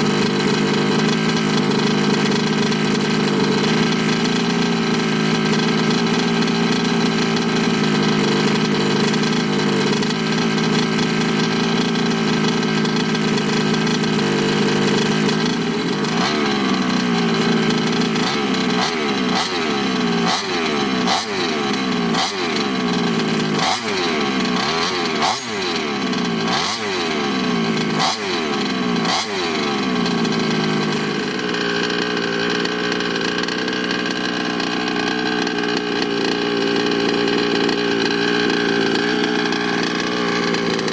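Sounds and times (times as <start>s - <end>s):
engine throttle blips: 0.0s - 40.9s
two-stroke engine running: 0.0s - 40.9s.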